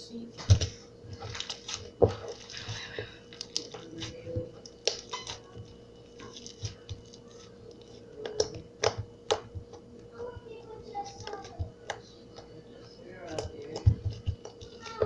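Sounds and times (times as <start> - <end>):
slime squelching between hands: 0.5 - 15.0.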